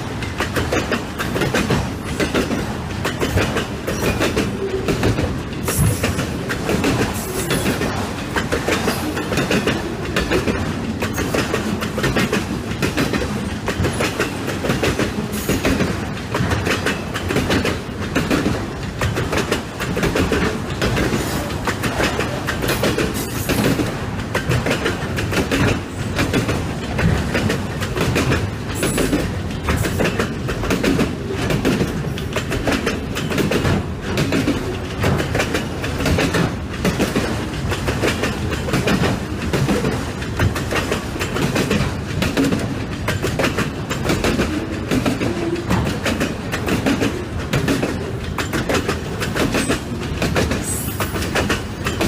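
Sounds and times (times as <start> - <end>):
train wheels clattering over rail joints: 0.0 - 52.0.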